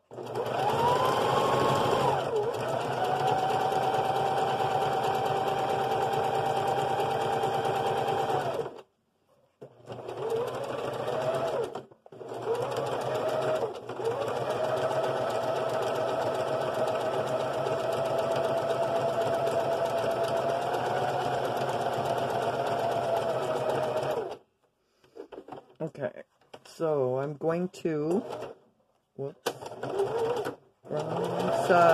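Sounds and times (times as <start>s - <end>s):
sewing machine whirring: 0.1s - 8.8s, 9.6s - 24.4s, 28.0s - 28.6s, 29.4s - 31.9s.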